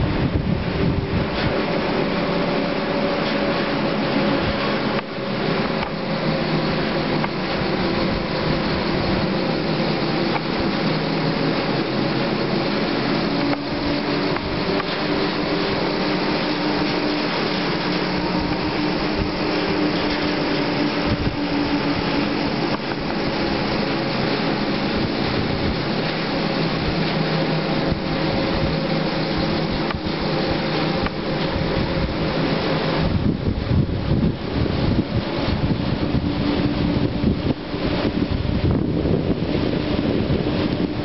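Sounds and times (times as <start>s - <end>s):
cable rope rolling over wheels: 0.0s - 41.0s
rushing hiss: 0.0s - 41.0s.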